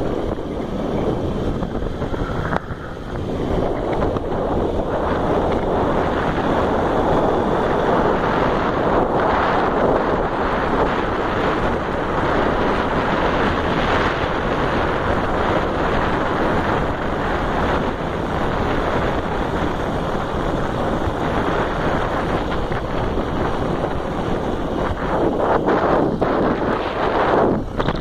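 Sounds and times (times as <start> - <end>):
motorcycle engine: 0.0 - 28.0
road noise: 0.0 - 28.0
wind rushing over microphone: 0.0 - 28.0.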